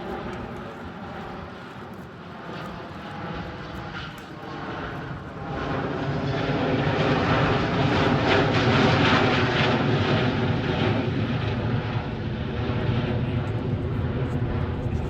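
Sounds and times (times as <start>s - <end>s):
jet flypast roar: 0.0s - 15.0s.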